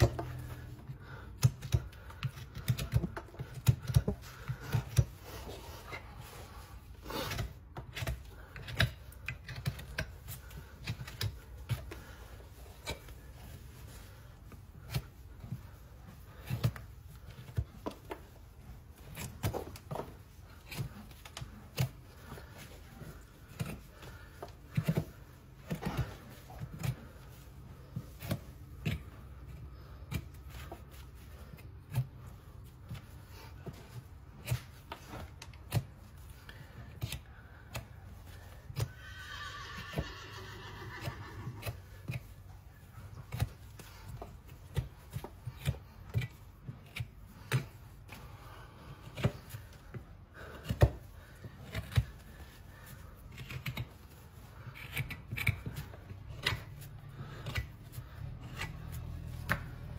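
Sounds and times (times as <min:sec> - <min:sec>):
hoof knife cutting and scraping hoof: 0:00.0 - 0:59.9.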